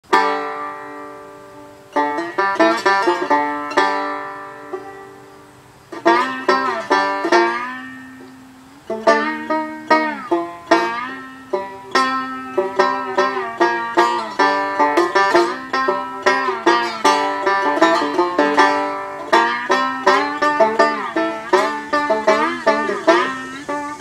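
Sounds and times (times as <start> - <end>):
slide banjo playing blues: 0.0 - 24.0.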